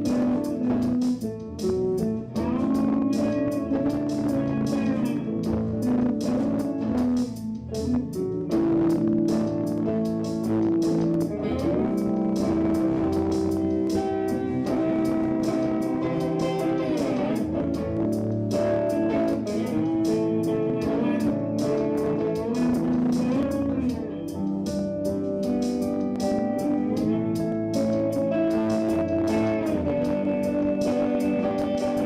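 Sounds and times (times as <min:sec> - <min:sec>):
electric guitar lead: 0:00.0 - 0:32.0
steady beat: 0:00.0 - 0:32.0.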